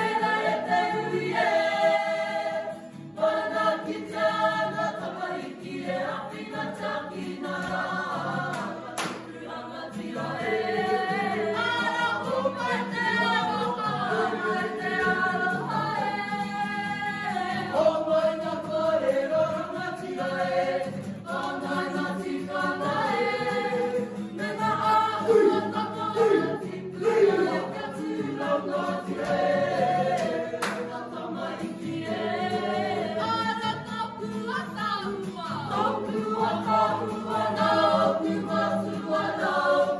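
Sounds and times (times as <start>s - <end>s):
group singing in unison: 0.0s - 39.9s
guitar accompaniment: 0.0s - 39.9s.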